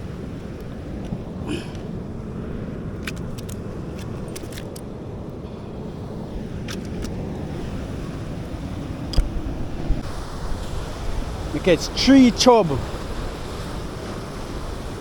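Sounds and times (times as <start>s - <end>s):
sea surf rumble: 0.0s - 15.0s
wind against microphone: 0.0s - 15.0s.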